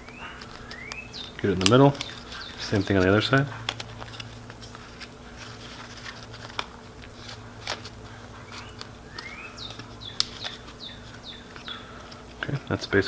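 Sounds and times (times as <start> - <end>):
plastic rubbing squeaks: 0.0 - 12.8
low steady hum: 0.0 - 13.0.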